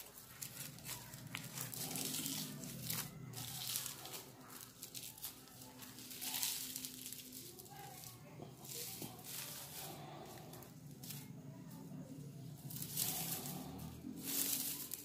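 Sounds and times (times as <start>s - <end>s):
plastic strips rustling and crinkling: 0.0s - 15.0s.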